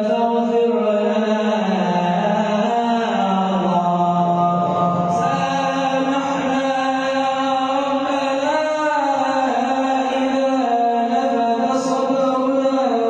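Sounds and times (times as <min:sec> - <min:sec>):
man chanting religiously: 0:00.0 - 0:13.0.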